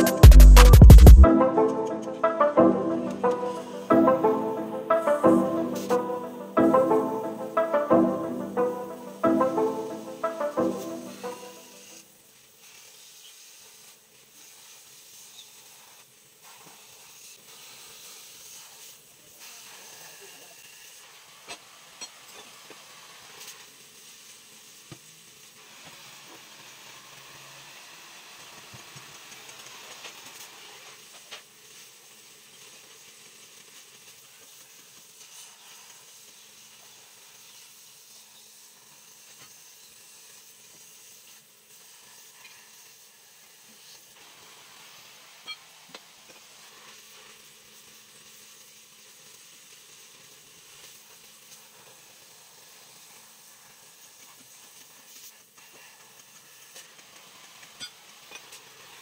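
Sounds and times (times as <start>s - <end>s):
cutting torch hissing: 9.5s - 59.0s.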